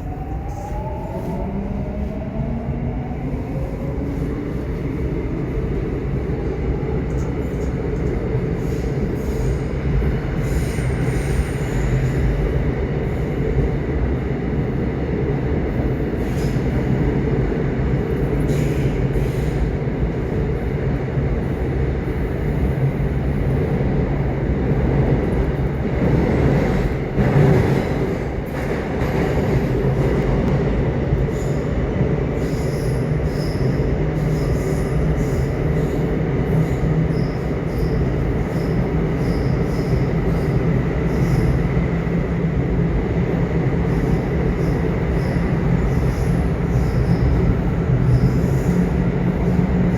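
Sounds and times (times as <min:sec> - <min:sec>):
subway train wheels rumbling on rails: 0:00.0 - 0:49.9.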